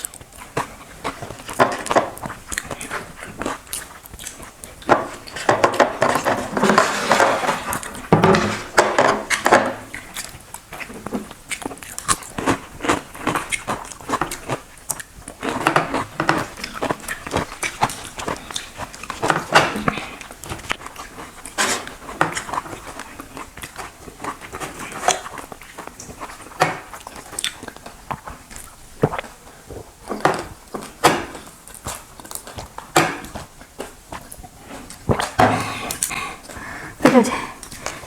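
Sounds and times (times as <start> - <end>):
chewing and mouth smacks: 0.0 - 8.2, 9.3 - 38.0.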